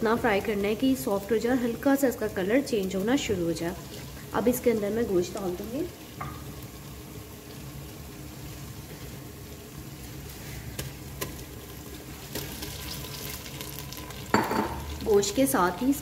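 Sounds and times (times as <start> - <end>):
onions sizzling in ghee: 0.0 - 16.0.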